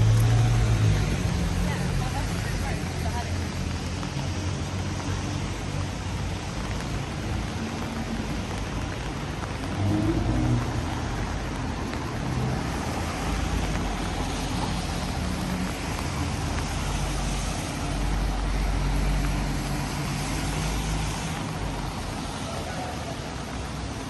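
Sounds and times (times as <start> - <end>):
rain and wet tyres hissing: 0.0 - 24.0
vehicles passing: 0.0 - 24.0.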